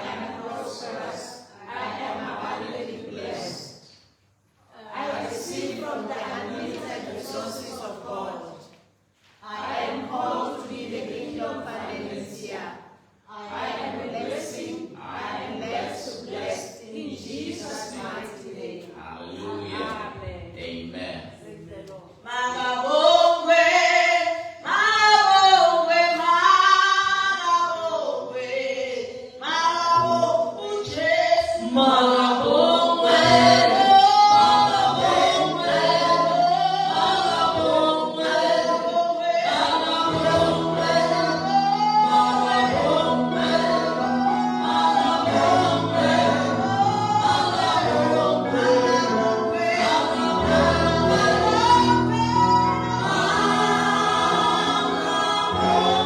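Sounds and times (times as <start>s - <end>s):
gospel choir singing: 0.0s - 4.0s, 4.7s - 56.0s.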